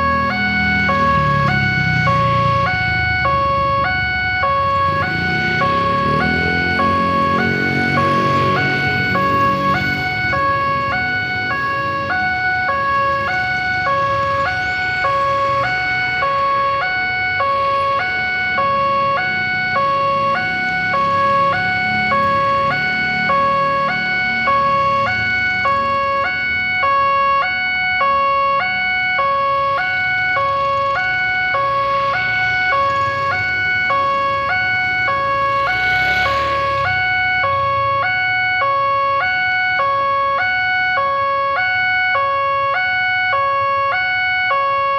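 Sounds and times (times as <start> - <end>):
level crossing two-tone alarm: 0.0 - 44.9.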